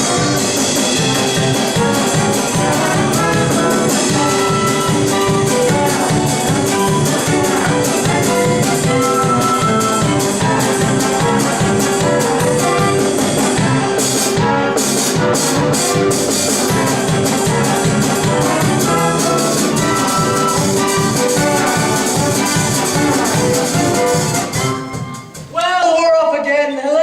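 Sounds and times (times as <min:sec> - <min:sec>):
orchestra playing instrumental music: 0:00.0 - 0:25.7.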